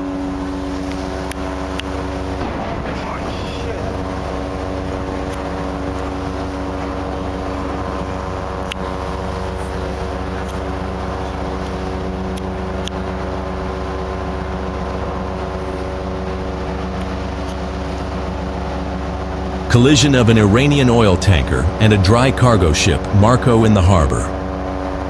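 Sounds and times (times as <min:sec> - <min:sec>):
ship engine droning: 0:00.0 - 0:25.0.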